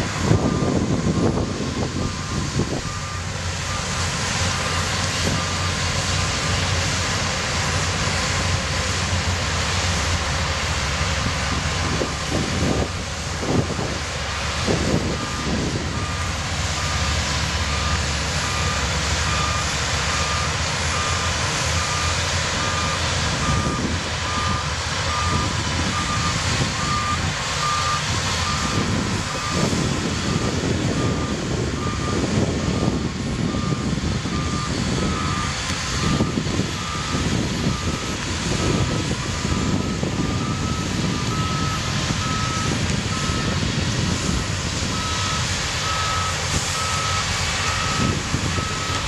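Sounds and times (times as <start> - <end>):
bulldozer diesel engines running: 0.0 - 49.0
reversing alarm beeping: 0.0 - 49.0.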